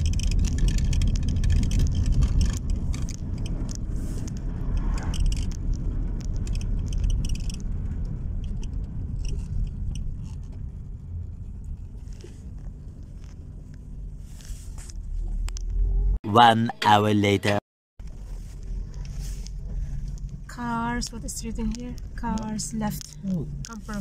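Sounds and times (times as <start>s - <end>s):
light rattles and scrapes: 0.0s - 15.8s, 18.0s - 24.0s
car engine and road rumble: 0.0s - 24.0s.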